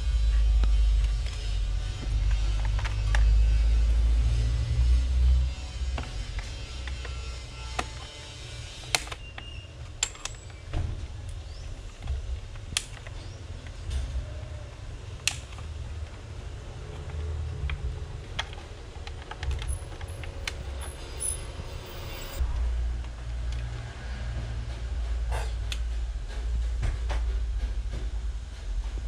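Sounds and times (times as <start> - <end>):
steady low rumble: 0.0 - 6.9, 10.7 - 29.0.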